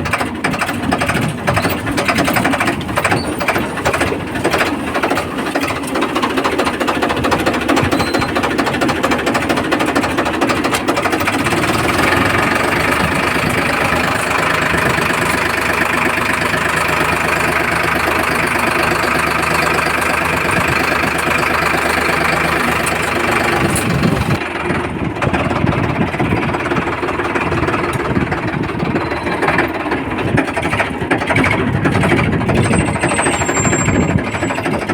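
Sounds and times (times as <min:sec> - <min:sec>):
tractor diesel engine clattering: 0:00.0 - 0:34.9.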